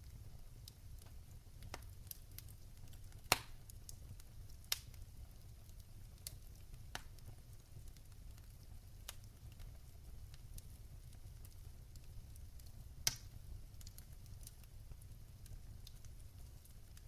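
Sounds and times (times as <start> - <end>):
fire popping: 0.0 - 17.0
fireplace fire crackling: 0.0 - 17.0.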